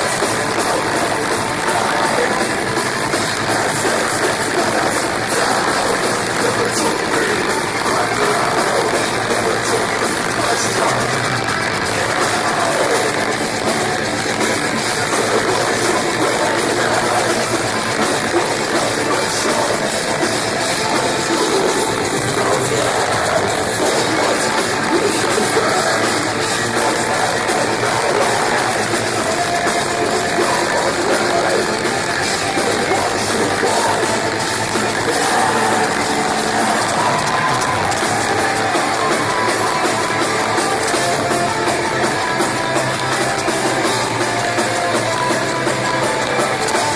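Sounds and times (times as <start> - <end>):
distorted electric guitars: 0.0 - 46.9
drum kit: 0.0 - 46.9
vocals: 0.0 - 46.9.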